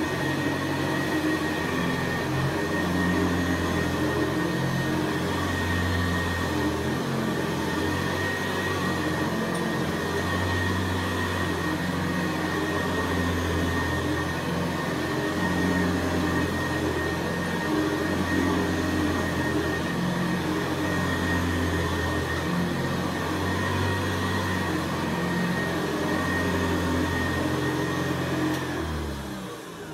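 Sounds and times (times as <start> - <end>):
vacuum cleaner motor whine: 0.0 - 29.9
vacuum pushed over carpet: 0.0 - 29.9.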